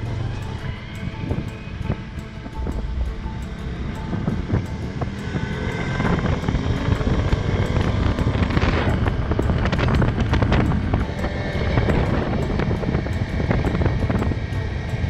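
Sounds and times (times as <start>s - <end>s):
background music: 0.0s - 15.0s
quad engine running: 0.0s - 15.0s
wind rushing over microphone: 0.0s - 15.0s.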